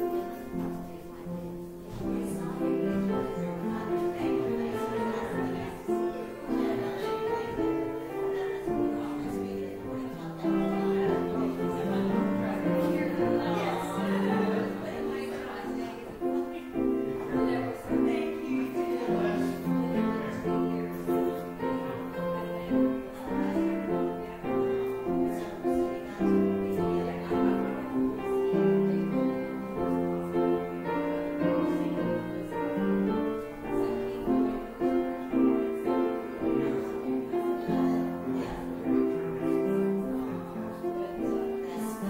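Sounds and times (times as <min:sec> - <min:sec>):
slow keyboard chords: 0:00.0 - 0:42.0.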